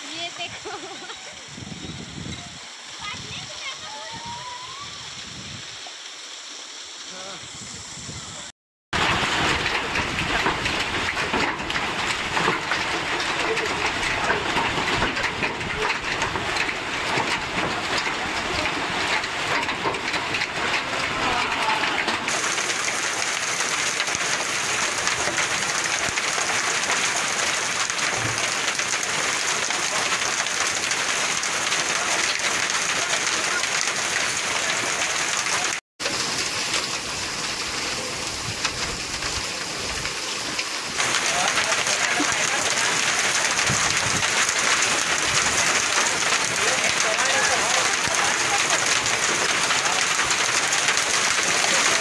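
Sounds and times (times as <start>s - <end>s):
heavy rain pattering on ground: 0.0s - 52.0s.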